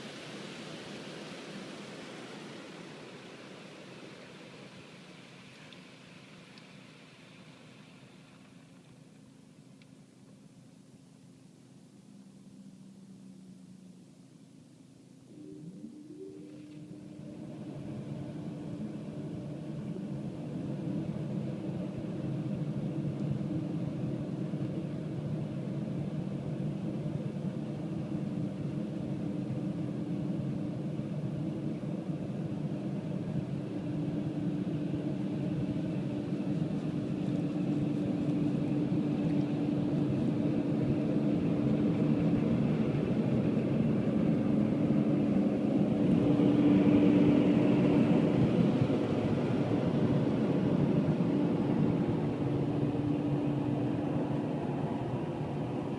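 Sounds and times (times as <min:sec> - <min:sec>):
car wash machinery rumbling: 0:00.0 - 0:55.9.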